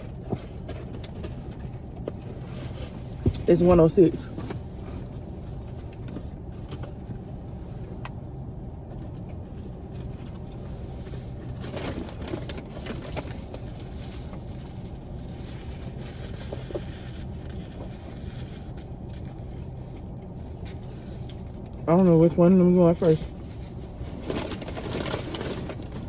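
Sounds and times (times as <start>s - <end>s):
car idling hum: 0.0s - 26.0s.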